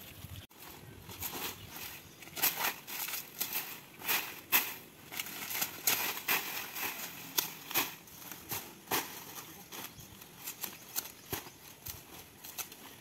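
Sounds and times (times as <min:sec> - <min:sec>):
dry leaves rustling and crackling: 0:00.4 - 0:13.0.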